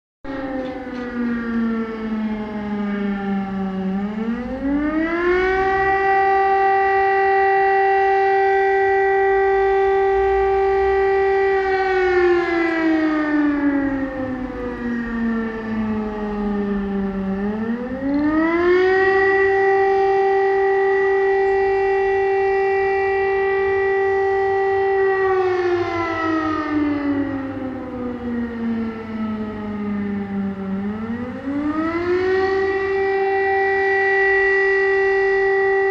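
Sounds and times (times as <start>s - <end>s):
civil defence siren wailing: 0.2s - 35.9s.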